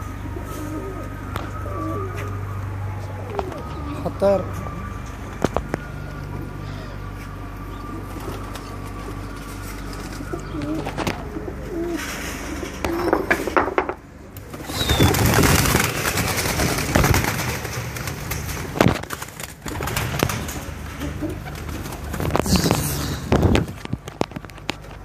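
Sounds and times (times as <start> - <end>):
pigeons cooing: 0.0 - 24.9.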